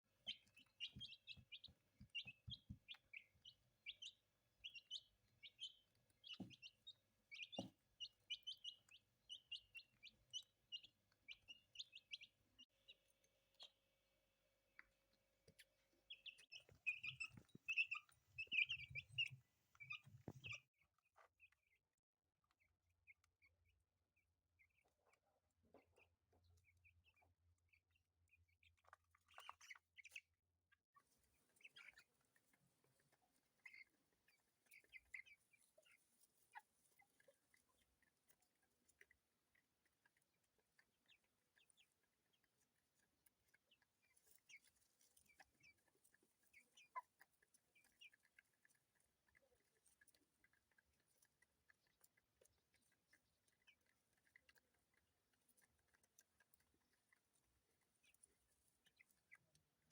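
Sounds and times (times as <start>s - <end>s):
chicks peeping: 0.1s - 14.1s, 14.7s - 21.6s, 28.7s - 30.3s, 31.0s - 59.8s.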